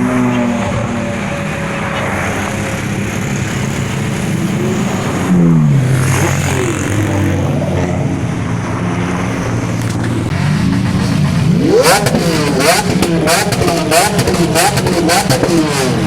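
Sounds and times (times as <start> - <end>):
supercar engines passing: 0.0 - 16.0.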